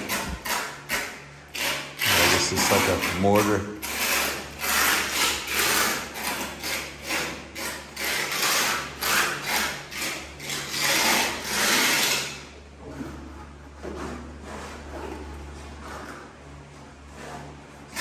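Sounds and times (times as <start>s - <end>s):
trowel scraping mortar: 0.0s - 16.4s.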